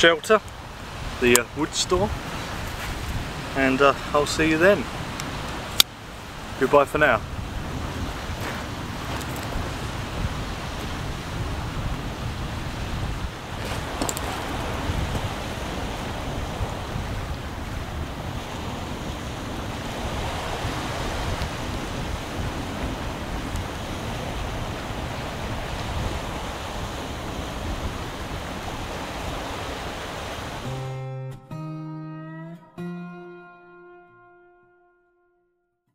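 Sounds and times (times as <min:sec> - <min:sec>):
wind buffeting the microphone: 0:00.0 - 0:30.7
sea waves on the shore: 0:00.0 - 0:30.9.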